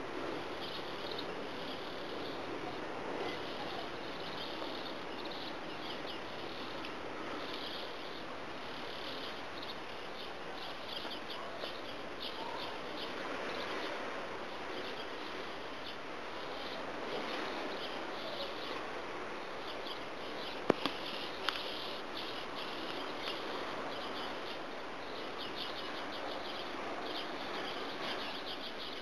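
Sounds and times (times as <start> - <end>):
insects chirping: 0.0 - 29.0
steady background hiss: 0.0 - 29.0.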